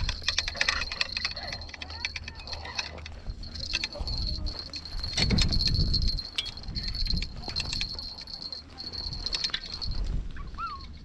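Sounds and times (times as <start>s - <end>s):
fishing reel clicks and rattles: 0.0s - 10.0s.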